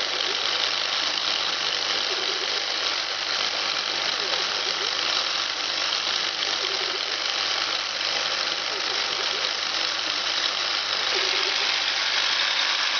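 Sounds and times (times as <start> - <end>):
milling machine running: 0.0 - 12.9.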